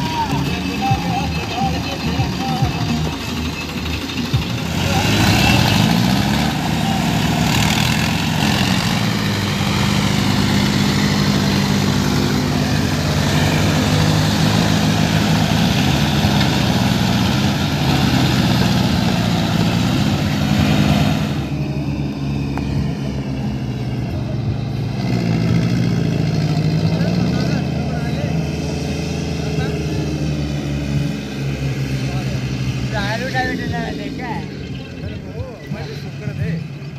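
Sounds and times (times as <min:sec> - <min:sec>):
diesel tractor engines under load: 0:00.0 - 0:36.9.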